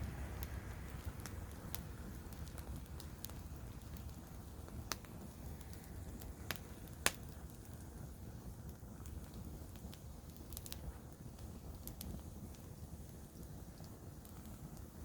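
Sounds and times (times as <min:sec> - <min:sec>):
campfire rumbling: 0:00.0 - 0:15.0
wood crackling pops: 0:00.0 - 0:15.0.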